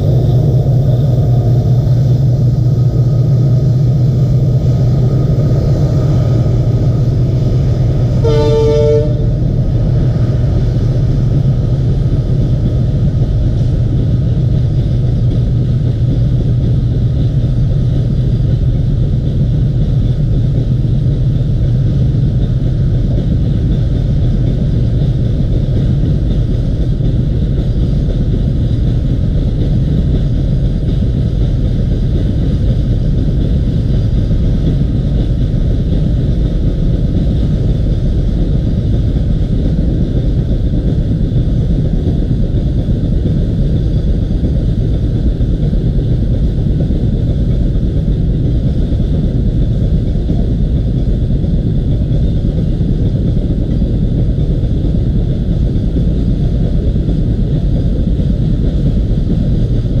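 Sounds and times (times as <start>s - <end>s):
freight train low rumble: 0.0s - 60.0s.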